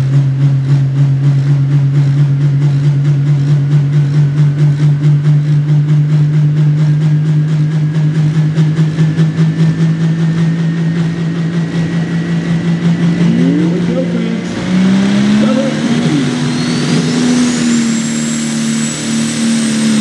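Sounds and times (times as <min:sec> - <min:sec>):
tractor diesel engine idling: 0:00.0 - 0:18.4.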